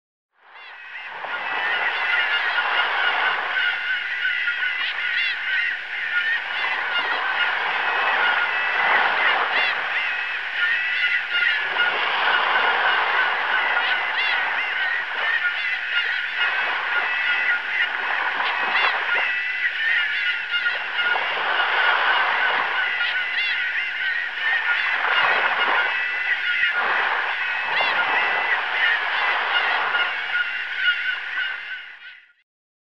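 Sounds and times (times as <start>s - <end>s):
sea waves washing: 0.5s - 32.0s
gulls calling: 0.5s - 32.4s.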